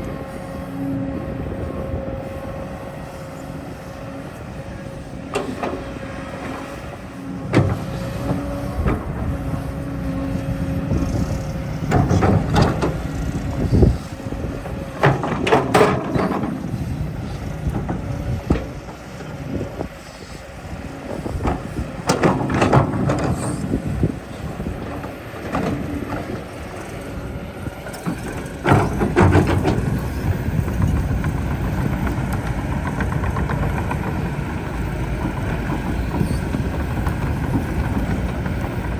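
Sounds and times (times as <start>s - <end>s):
excavator clanking and scraping: 0.0s - 38.9s
excavator engine running: 0.0s - 38.9s.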